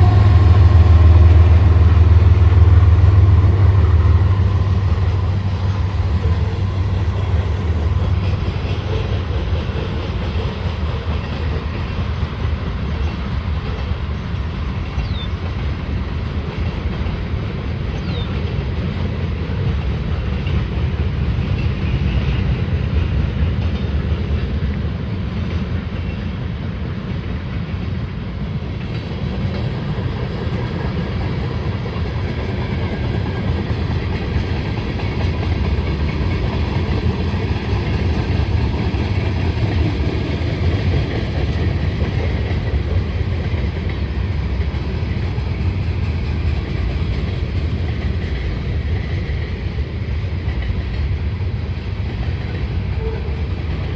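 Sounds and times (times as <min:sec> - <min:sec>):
freight train wheels on track: 0:00.0 - 0:53.9.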